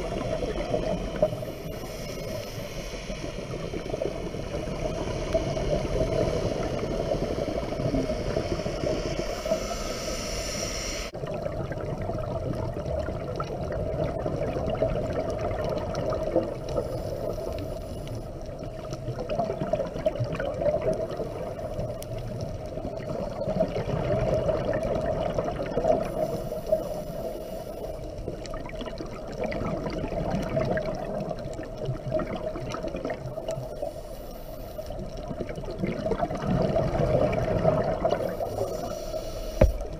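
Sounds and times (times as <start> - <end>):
underwater rush of water: 0.0 - 39.9.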